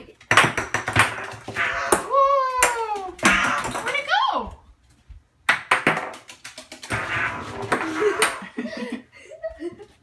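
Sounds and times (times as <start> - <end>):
balls bouncing: 0.2 - 8.4.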